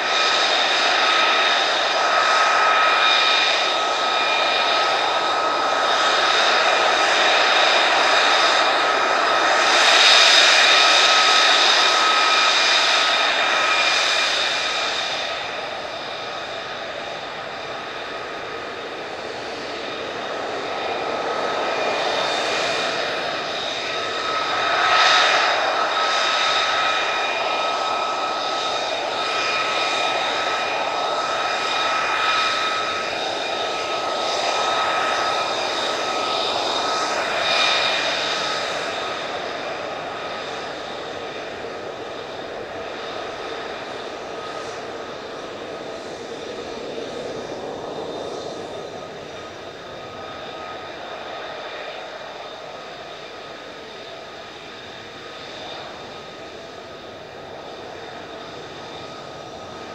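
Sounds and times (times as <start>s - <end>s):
jet engine whine at taxi power: 0.0s - 59.9s.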